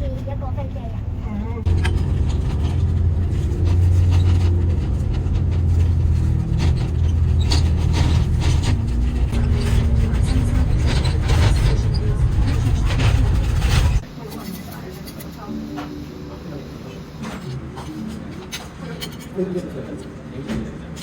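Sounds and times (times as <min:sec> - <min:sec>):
vehicle engine hum: 0:00.0 - 0:18.6.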